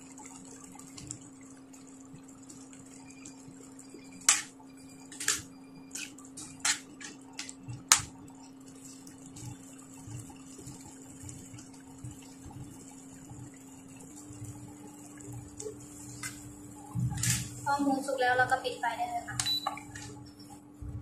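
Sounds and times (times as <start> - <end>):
faint bubbling: 0.0 - 21.0
steady hum: 0.0 - 21.0.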